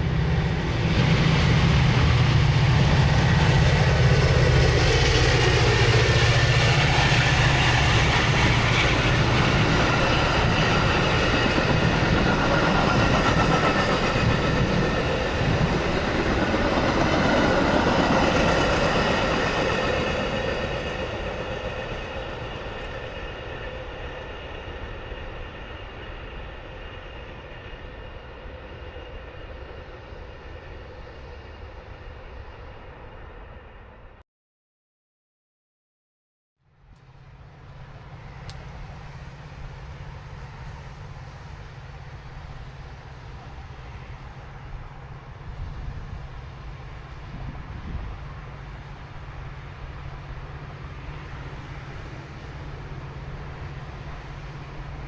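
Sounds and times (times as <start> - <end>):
train passing at speed: 0.0 - 34.2, 36.8 - 55.0.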